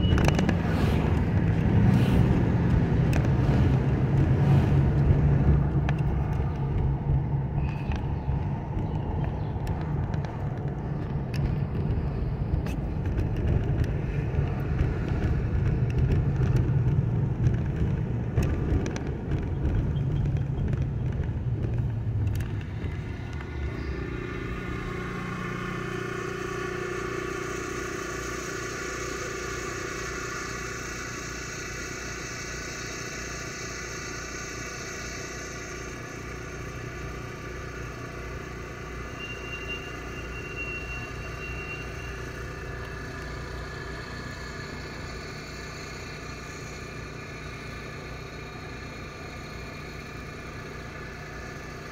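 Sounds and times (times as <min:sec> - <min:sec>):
car idling hum: 0:00.0 - 0:51.9
car road and engine rumble: 0:00.0 - 0:51.9.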